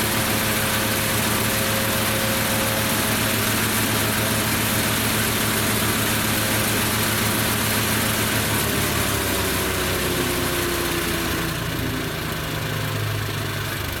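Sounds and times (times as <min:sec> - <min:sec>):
wood chipper engine running: 0:00.0 - 0:14.0.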